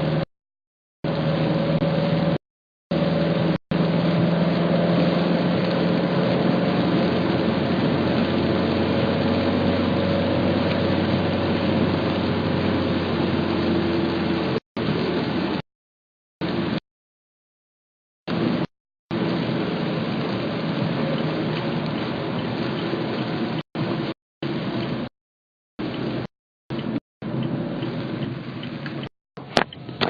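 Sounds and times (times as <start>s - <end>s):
car road and engine noise: 0.0s - 0.3s, 1.0s - 15.6s, 16.4s - 16.8s, 18.3s - 25.1s, 25.8s - 30.0s.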